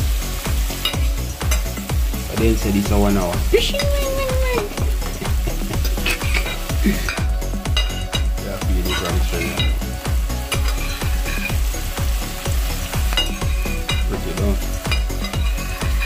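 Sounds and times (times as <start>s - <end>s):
food sizzling in a pot: 0.0s - 16.0s
music with bass drum beat: 0.0s - 16.0s.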